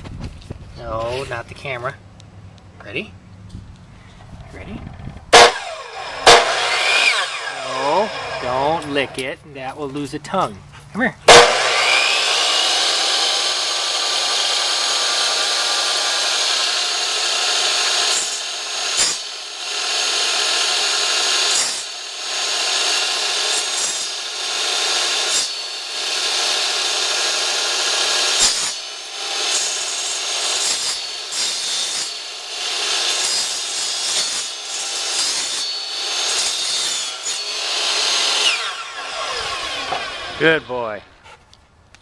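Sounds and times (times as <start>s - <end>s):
electric saw cutting wood: 5.3s - 9.3s, 11.3s - 41.2s.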